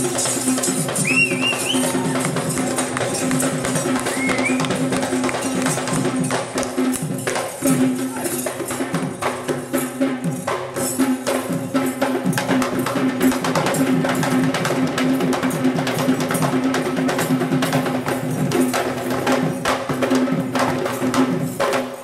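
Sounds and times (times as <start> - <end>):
barrel drums beaten in dance rhythm: 0.0 - 22.0.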